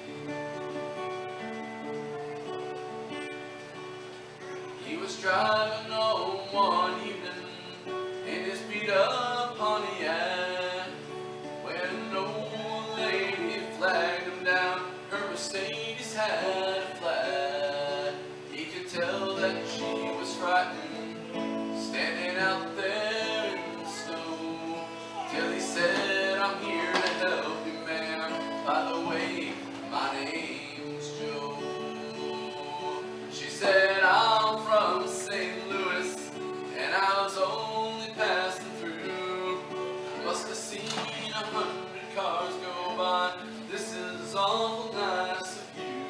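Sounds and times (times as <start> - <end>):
acoustic guitar: 0.0 - 46.0
man singing: 4.7 - 46.0.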